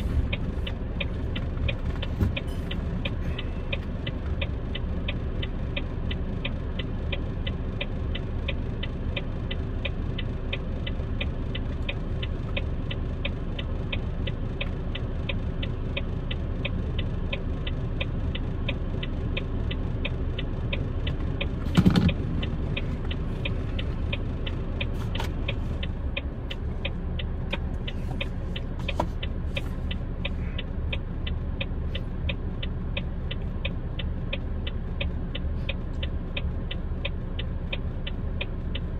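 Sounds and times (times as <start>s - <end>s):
engine idling: 0.0s - 38.9s
even ticking: 0.2s - 38.9s.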